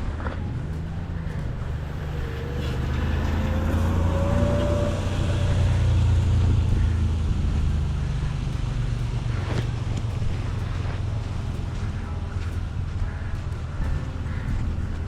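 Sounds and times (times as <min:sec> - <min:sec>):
faint rising whine: 0:00.0 - 0:15.0
motor vehicle low rumble: 0:00.0 - 0:15.0.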